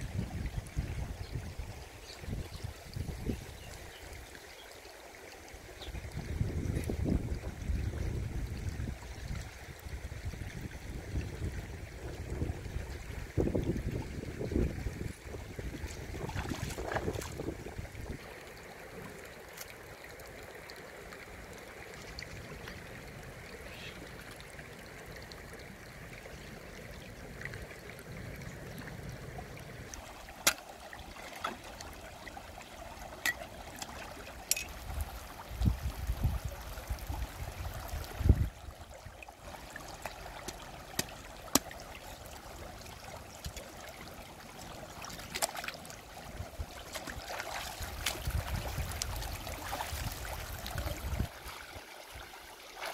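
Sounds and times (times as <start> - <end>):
river water trickling and splashing: 0.0 - 52.9.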